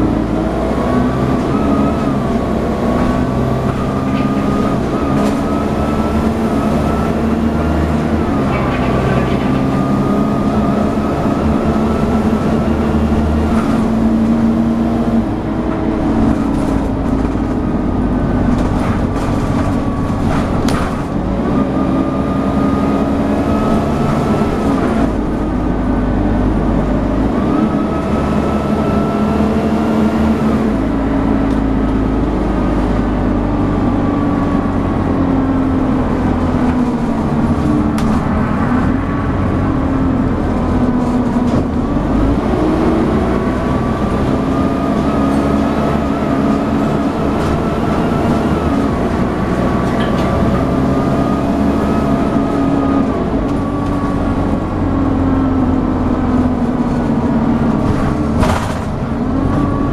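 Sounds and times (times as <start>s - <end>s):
diesel engine droning with whine: 0.0s - 59.9s.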